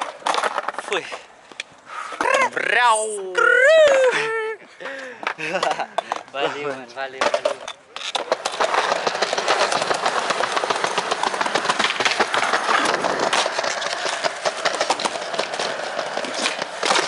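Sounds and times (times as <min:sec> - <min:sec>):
skateboard wheels rolling on tiles: 0:00.0 - 0:02.7, 0:04.8 - 0:17.0.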